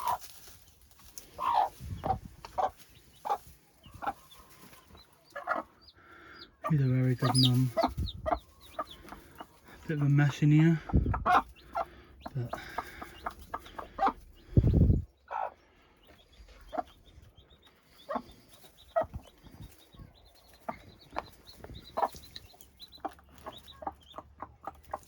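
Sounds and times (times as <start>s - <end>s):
hen clucking softly: 0.0s - 0.4s, 1.1s - 25.0s
chicks cheeping: 0.0s - 25.0s.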